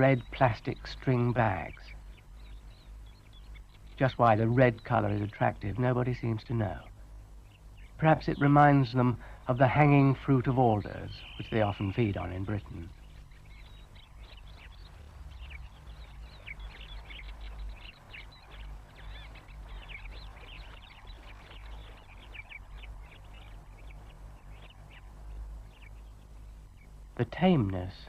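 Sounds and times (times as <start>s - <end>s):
birds twittering: 0.0s - 28.0s
low soundtrack hum: 0.0s - 28.0s.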